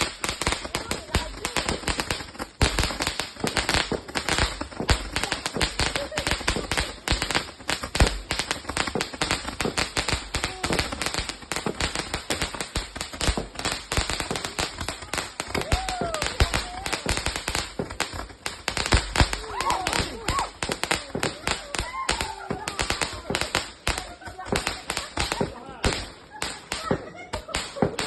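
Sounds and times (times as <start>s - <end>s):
firework rapid bangs: 0.0s - 28.0s.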